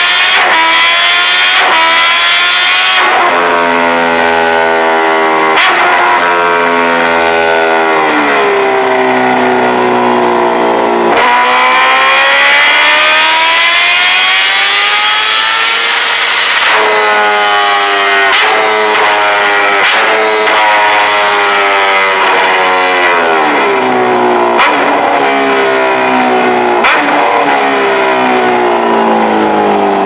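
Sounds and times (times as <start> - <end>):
motorcycle engine revving on dyno: 0.0 - 30.0.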